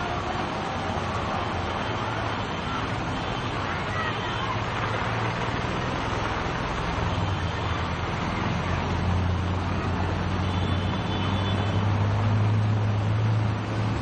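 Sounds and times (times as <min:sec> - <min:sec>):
traffic driving through water: 0:00.0 - 0:14.0.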